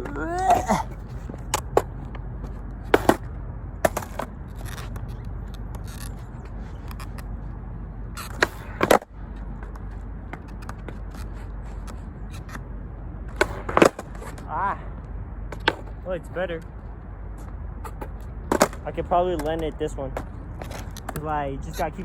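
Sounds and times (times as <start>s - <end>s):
skateboard clacking on ground: 0.0s - 7.4s, 8.2s - 12.6s, 13.3s - 14.6s, 15.5s - 16.7s, 17.4s - 22.0s
skateboard wheels rumbling: 0.0s - 22.0s.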